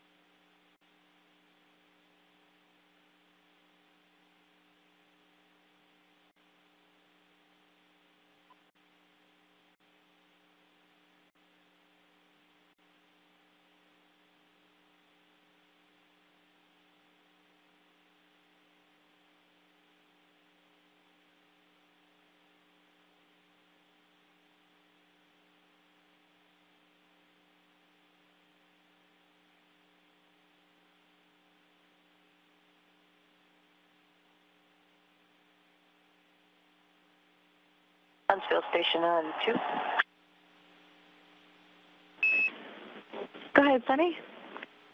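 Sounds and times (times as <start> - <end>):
electrical hum with hiss: 0.0 - 44.9.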